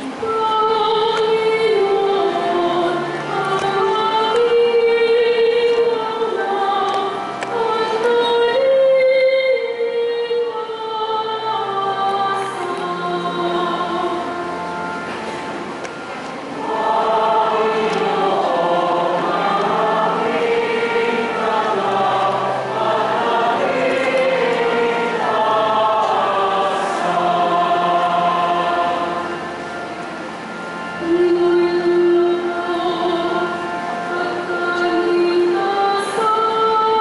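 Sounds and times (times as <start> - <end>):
church choir singing: 0.0 - 37.0
sustained low accompaniment notes: 0.0 - 37.0.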